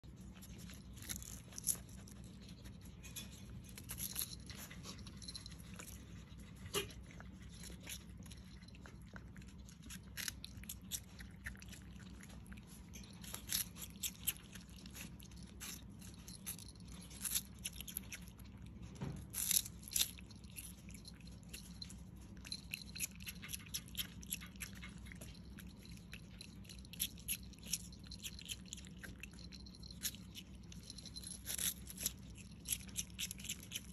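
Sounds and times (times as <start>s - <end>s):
skunk crunching celery: 0.0s - 33.9s.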